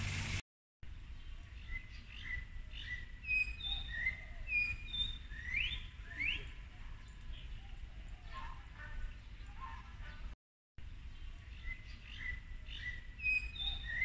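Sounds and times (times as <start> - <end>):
songbirds whistling: 1.6 - 10.4, 11.2 - 14.0.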